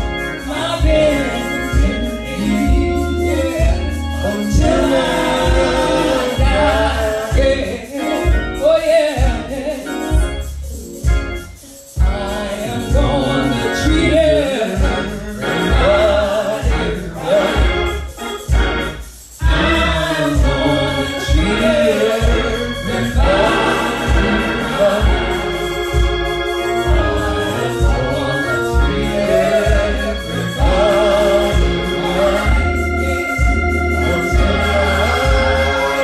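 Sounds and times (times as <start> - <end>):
man singing gospel into microphone: 0.0 - 10.8, 11.8 - 18.7, 19.4 - 36.0
band playing with low beat: 0.0 - 36.0.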